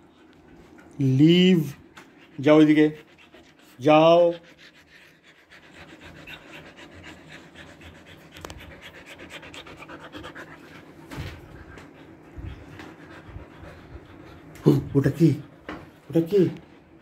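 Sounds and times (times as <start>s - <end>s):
dog panting rapidly: 0.0s - 17.0s.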